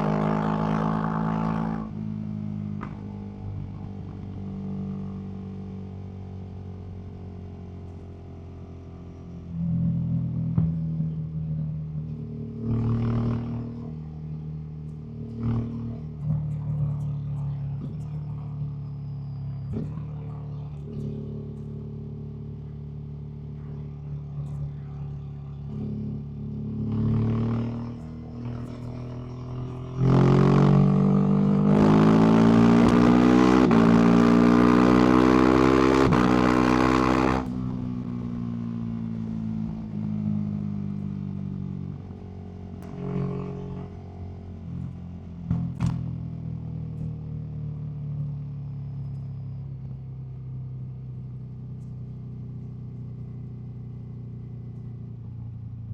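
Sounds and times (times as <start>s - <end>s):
motorcycle engine revving: 0.0s - 47.3s.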